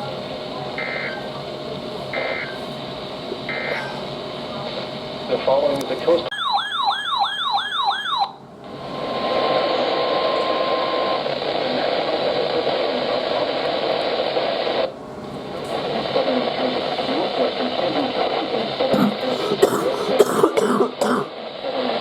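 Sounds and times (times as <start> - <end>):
radio static hiss: 0.0 - 6.3, 8.5 - 22.0.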